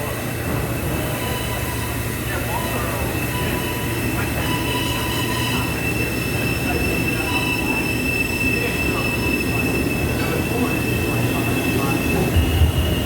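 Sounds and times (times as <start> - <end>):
subway cars rumbling: 0.0 - 13.0
high wheel squeal: 0.3 - 13.0.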